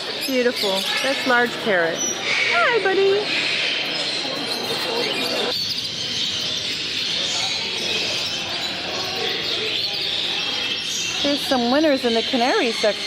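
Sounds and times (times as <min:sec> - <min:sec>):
murmur of people talking: 0:00.0 - 0:13.0
small birds chirping: 0:00.0 - 0:13.0.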